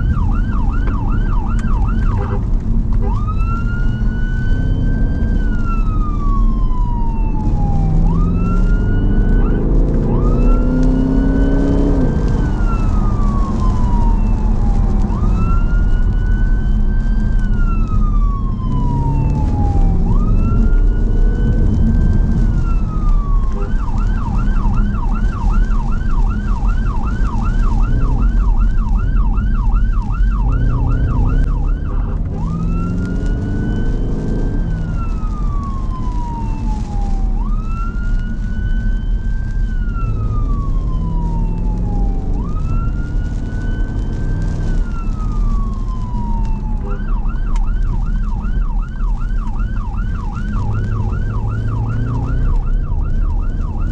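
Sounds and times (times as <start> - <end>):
emergency vehicle siren: 0.0 - 53.9
engine and road noise: 0.0 - 53.9.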